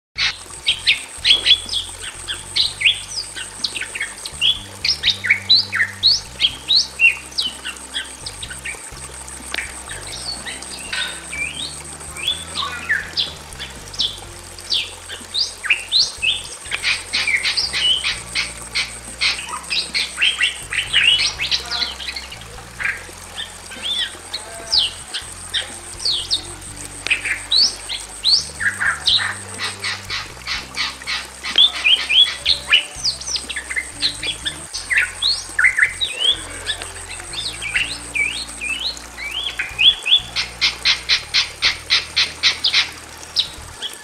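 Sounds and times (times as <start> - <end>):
birds calling with sharp squawks: 0.2 - 26.4, 27.0 - 44.0.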